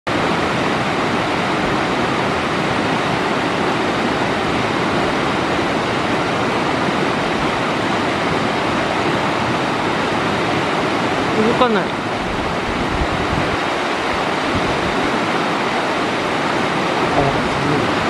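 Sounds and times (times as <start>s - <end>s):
stream rushing over rocks: 0.1s - 18.0s.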